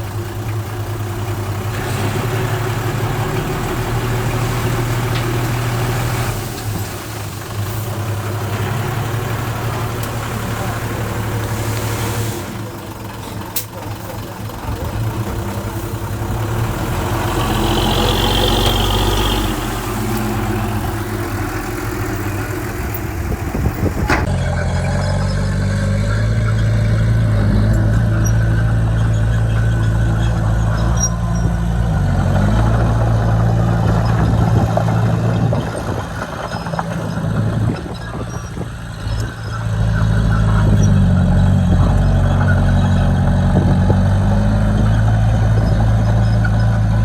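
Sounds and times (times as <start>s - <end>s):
diesel machinery engines running: 0.0s - 47.0s.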